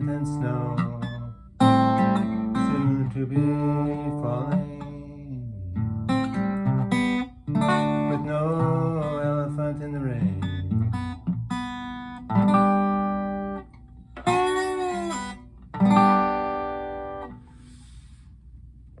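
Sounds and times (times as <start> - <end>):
acoustic guitar strummed chords: 0.0 - 18.1.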